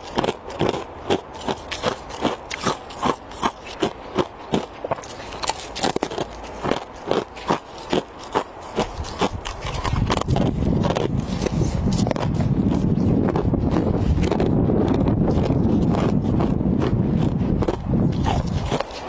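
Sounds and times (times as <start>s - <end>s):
ice crunching while chewed: 0.0s - 19.0s.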